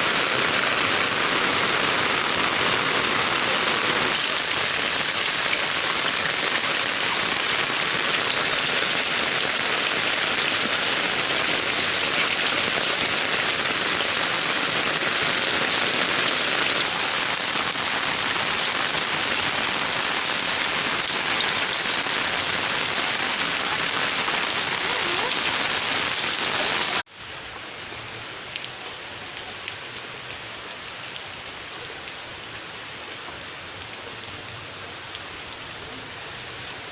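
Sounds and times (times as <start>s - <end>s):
heavy rain falling: 0.0s - 36.9s
water drips: 0.3s - 36.9s.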